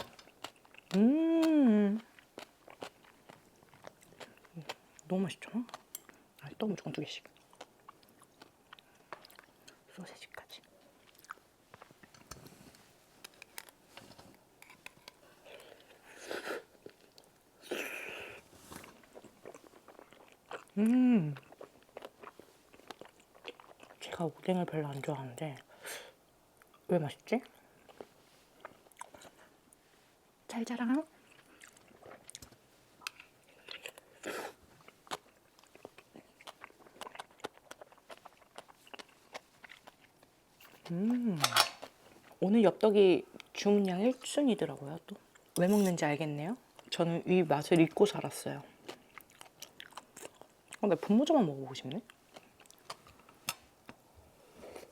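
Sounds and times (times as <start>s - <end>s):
soft wet chewing: 0.0s - 25.8s, 26.6s - 54.9s.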